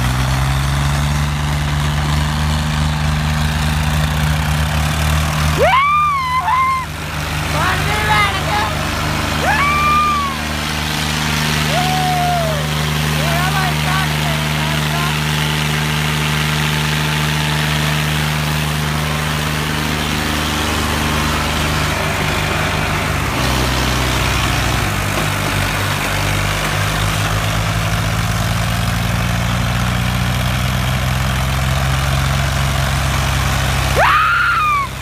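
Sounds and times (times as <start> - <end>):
tractor diesel engines under load: 0.0 - 35.0.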